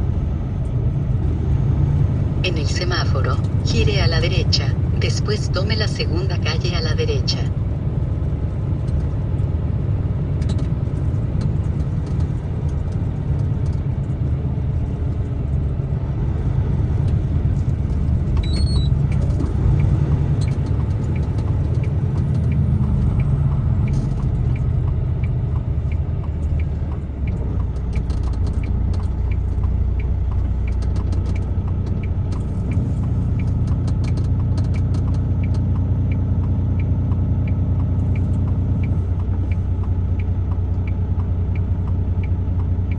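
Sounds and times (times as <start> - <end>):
truck engine and road rumble: 0.0 - 42.9.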